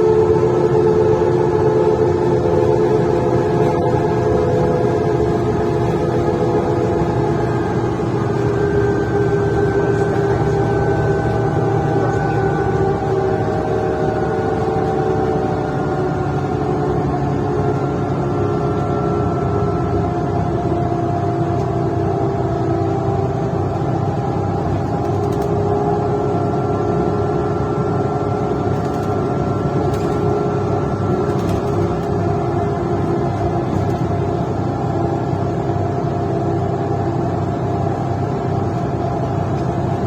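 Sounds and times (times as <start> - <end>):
bus engine and exhaust drone: 0.0 - 40.0.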